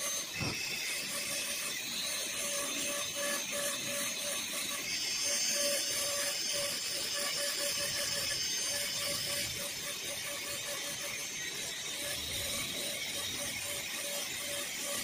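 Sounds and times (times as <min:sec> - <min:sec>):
dental drill whining and grinding: 0:00.0 - 0:15.0.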